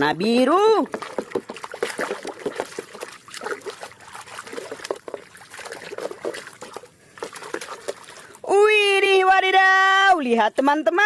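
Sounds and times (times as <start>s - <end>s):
water splashing and trickling: 0.0s - 9.2s.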